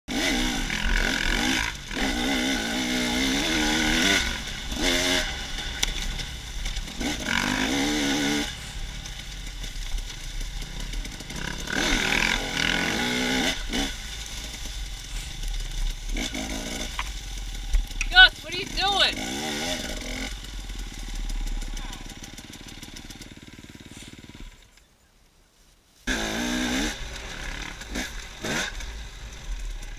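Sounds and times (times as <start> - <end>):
dirt bike engines revving: 0.1 - 24.8, 26.1 - 29.9.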